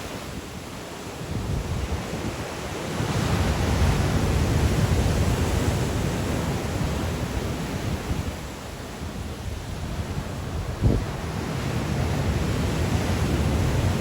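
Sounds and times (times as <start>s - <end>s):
sea waves breaking on shore: 0.0s - 14.0s
wind buffeting microphone: 0.0s - 14.0s.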